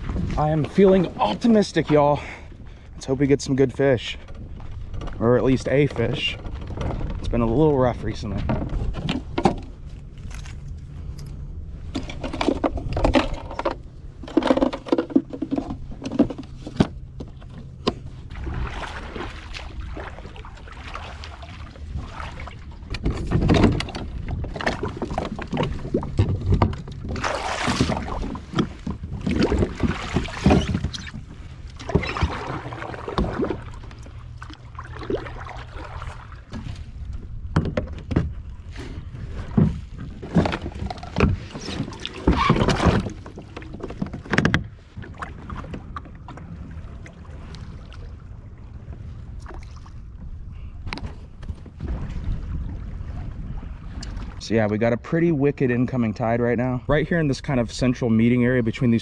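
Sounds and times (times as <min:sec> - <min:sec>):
water sloshing: 0:00.0 - 0:55.1.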